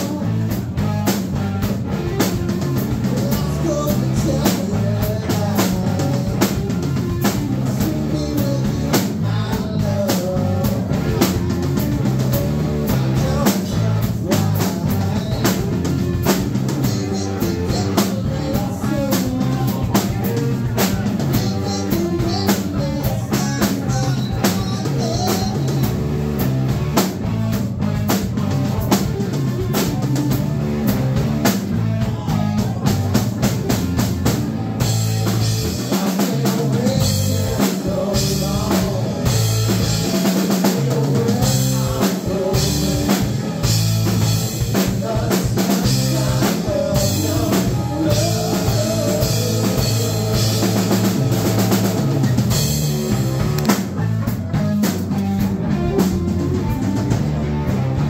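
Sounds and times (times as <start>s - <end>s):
drum kit beat: 0.0s - 58.0s
electric bass: 0.0s - 58.0s
electric guitar: 0.0s - 58.0s.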